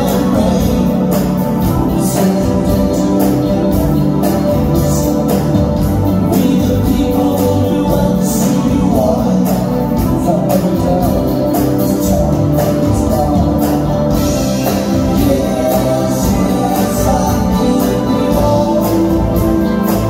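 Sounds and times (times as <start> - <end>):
live pop band playing: 0.0 - 20.0
man singing: 0.0 - 20.0.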